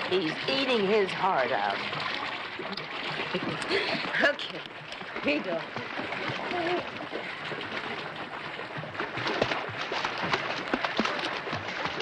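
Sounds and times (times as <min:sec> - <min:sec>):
water splashing in pool: 0:00.0 - 0:12.0.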